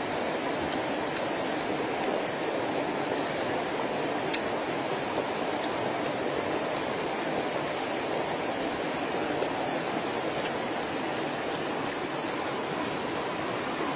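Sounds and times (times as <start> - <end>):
stream water running: 0.0 - 13.9.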